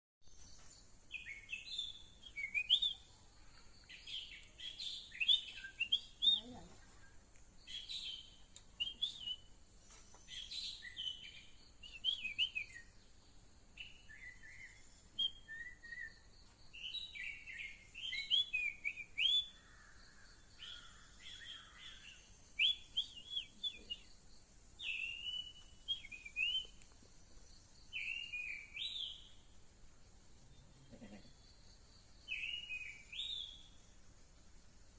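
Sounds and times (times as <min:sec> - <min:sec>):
songbird chirping: 0:00.2 - 0:34.9.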